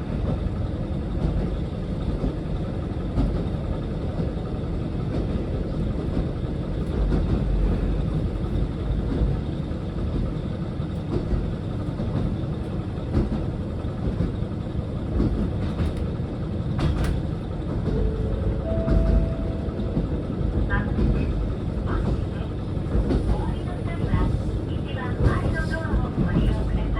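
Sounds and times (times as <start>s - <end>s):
diesel train rumbling on track: 0.0s - 26.9s.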